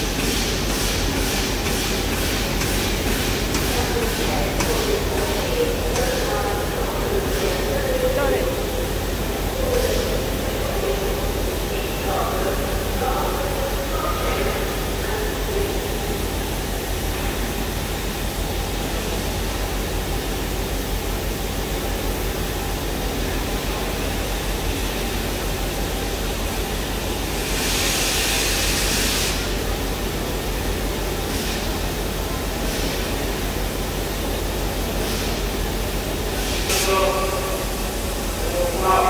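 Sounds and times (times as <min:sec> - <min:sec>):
steam hissing: 0:00.0 - 0:19.5, 0:22.6 - 0:39.0
steam locomotive low hum: 0:00.0 - 0:39.0.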